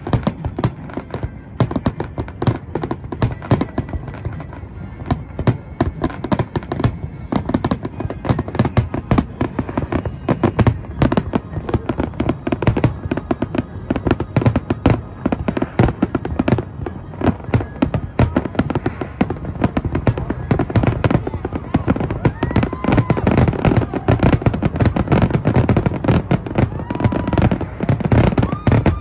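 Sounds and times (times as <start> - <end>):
fireworks bursts and crackle: 0.0 - 29.0.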